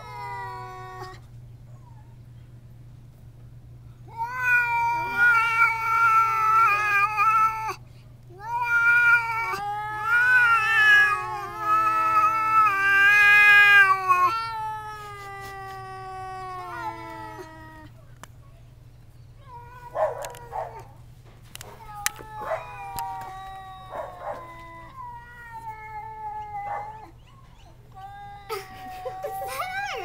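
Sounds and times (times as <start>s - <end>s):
cats yowling: 0.0s - 2.2s, 4.1s - 18.0s, 19.4s - 30.0s.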